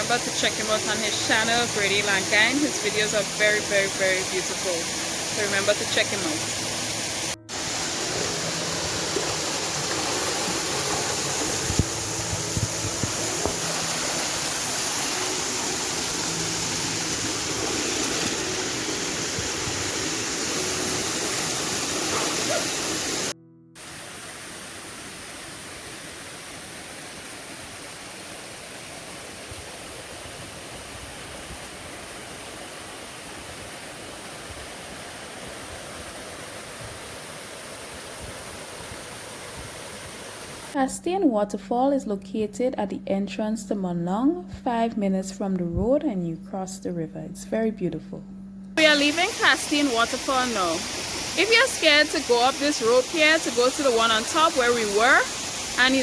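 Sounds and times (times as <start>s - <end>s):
waterfall rushing: 0.0s - 40.8s, 48.8s - 56.0s.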